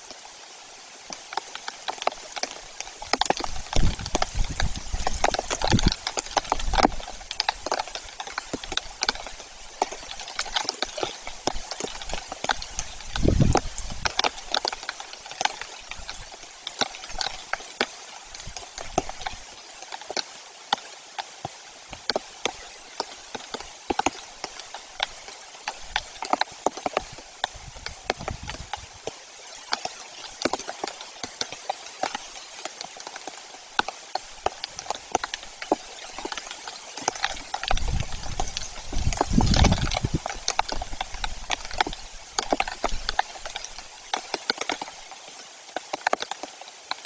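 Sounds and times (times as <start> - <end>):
raindrops ticking: 0.0 - 47.0
steady rain hiss: 0.0 - 47.0.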